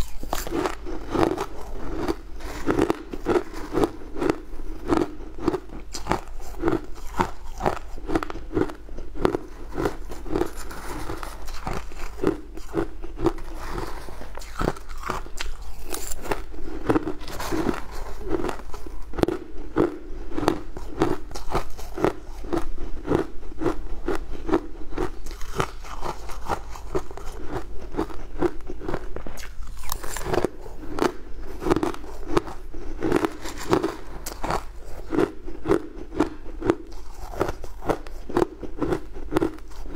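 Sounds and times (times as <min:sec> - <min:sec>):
chewing crunchy frozen ice: 0:00.0 - 0:39.9.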